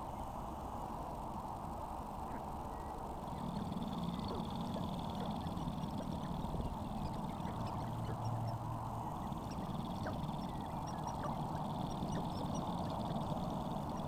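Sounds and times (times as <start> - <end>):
chorus of grouse calls: 2.2 - 14.0.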